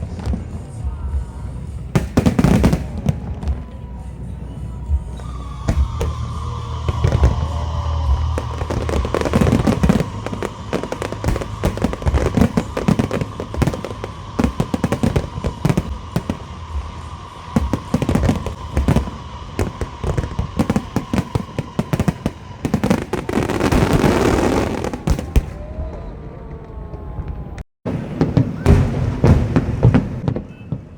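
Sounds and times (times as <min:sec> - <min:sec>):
fireworks bangs and pops: 0:00.0 - 0:30.9
fireworks crackling rush: 0:00.0 - 0:30.9.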